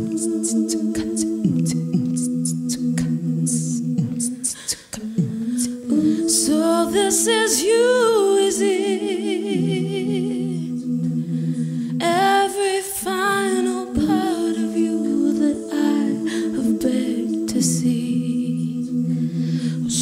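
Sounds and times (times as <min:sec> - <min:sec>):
layered held vocal notes: 0:00.0 - 0:20.0
woman singing with vibrato: 0:00.0 - 0:20.0.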